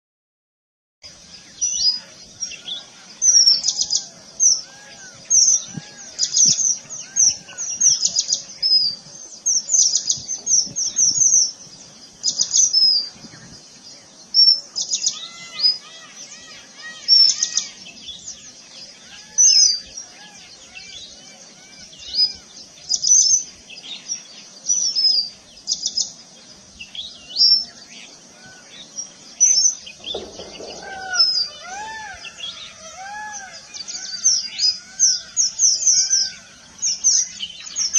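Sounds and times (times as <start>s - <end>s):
birds chirping: 1.0s - 37.9s
soft low whistled bird notes: 1.0s - 37.9s.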